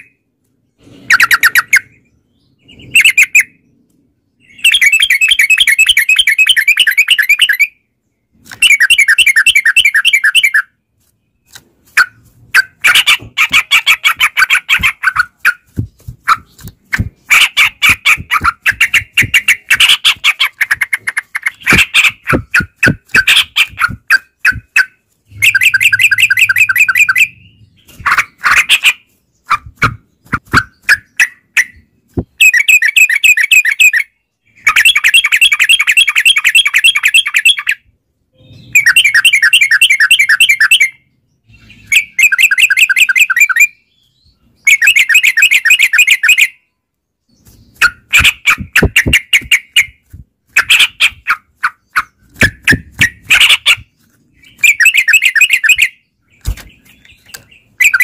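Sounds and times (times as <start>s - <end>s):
bulbuls singing: 0.0s - 46.7s, 47.3s - 58.0s.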